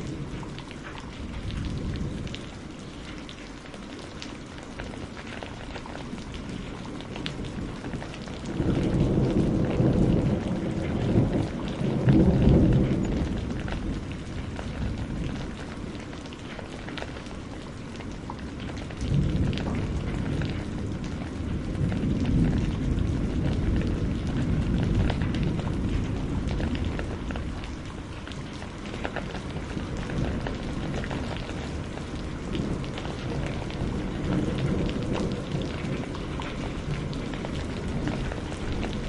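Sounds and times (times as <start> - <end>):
low rolls of thunder: 0.0 - 3.4, 4.0 - 39.0
steady rain: 0.0 - 39.0.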